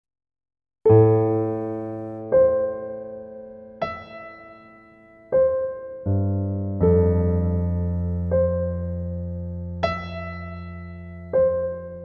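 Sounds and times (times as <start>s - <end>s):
slow piano chords: 0.9s - 12.0s.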